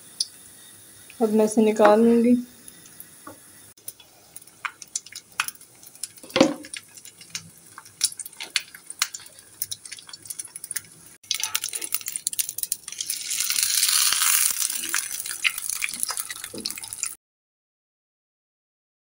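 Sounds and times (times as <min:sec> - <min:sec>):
ghee crackling in a pan: 0:00.0 - 0:17.2.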